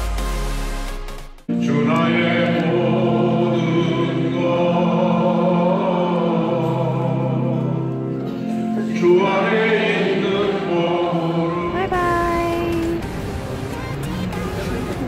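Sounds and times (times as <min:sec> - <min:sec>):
choir singing a hymn: 0:01.6 - 0:15.0.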